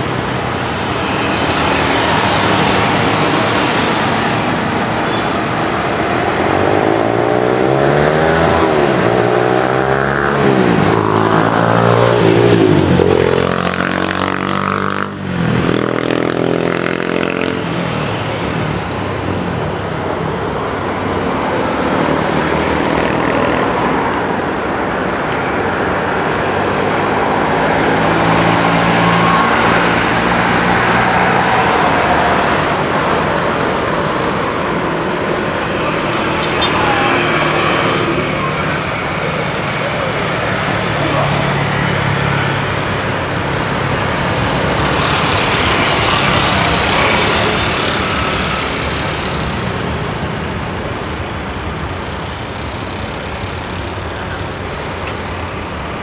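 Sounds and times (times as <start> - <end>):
jet engines passing by: 0.0 - 56.0.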